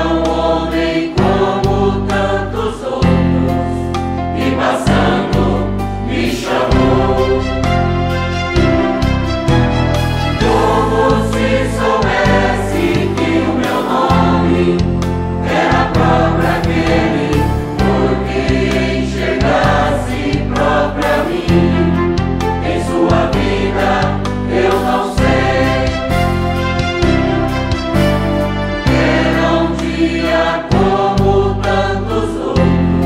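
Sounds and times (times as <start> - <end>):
keyboard accompaniment: 0.0 - 33.0
mixed choir singing a hymn: 0.0 - 33.0.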